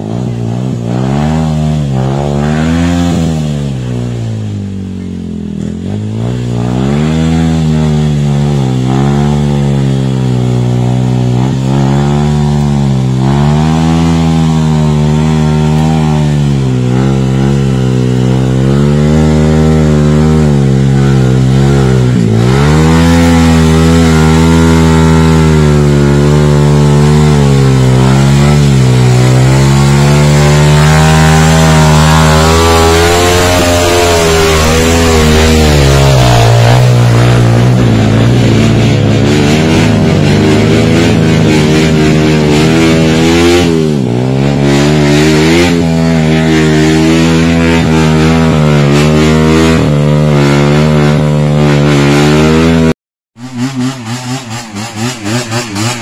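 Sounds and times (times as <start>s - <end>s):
dirt bike engine revving high: 0.0s - 56.0s.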